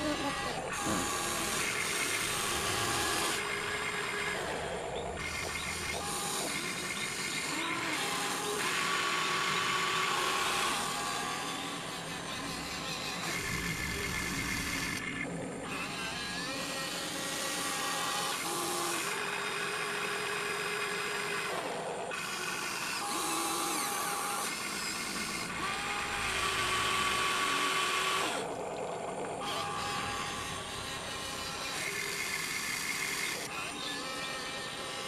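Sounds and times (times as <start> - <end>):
electric motors whining: 0.0 - 35.0.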